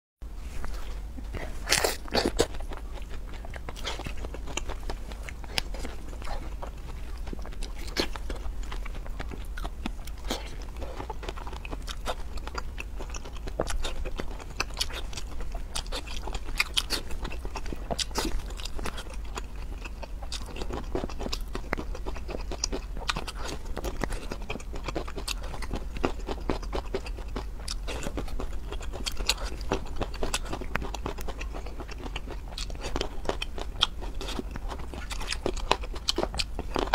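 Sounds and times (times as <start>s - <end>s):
steady low hum: 0.2s - 36.9s
wet chewing and crunching: 0.6s - 36.9s.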